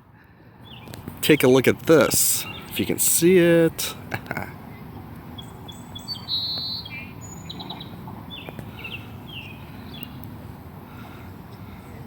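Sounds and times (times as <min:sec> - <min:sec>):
birds chirping and trilling: 0:00.5 - 0:03.5, 0:04.7 - 0:12.0.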